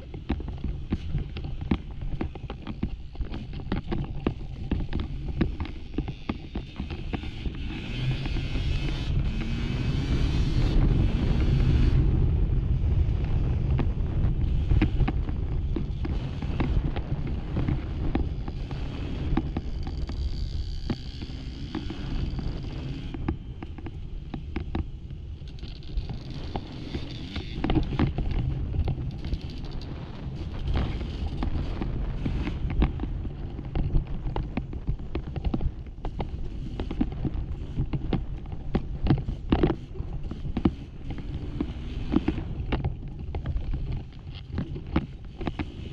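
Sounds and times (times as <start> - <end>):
dirt bike engine at low revs: 0.0 - 45.9.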